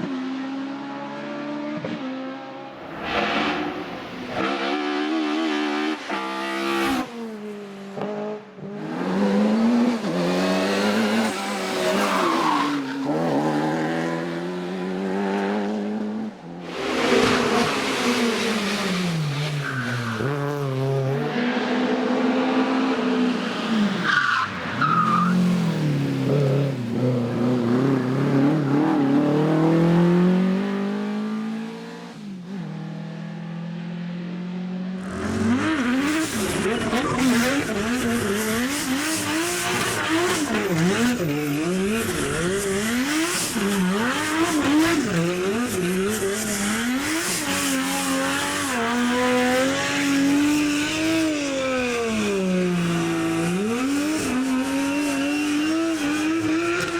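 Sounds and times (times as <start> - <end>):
racing car accelerating: 0.0 - 56.9
racing car revving: 0.0 - 56.9.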